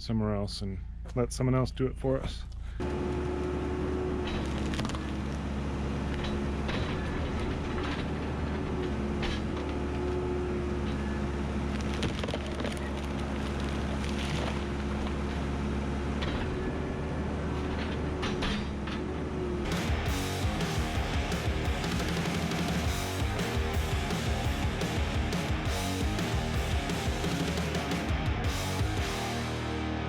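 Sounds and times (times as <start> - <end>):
diesel engine running: 2.4 - 30.0.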